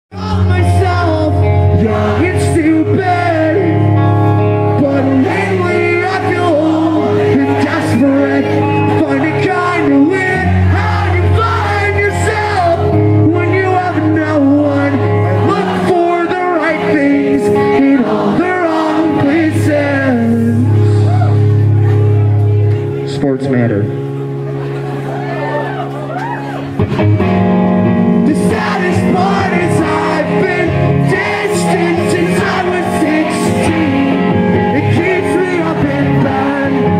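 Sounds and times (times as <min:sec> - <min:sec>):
man singing: 0:00.1 - 0:21.4, 0:28.2 - 0:36.9
live rock band playing: 0:00.1 - 0:36.9.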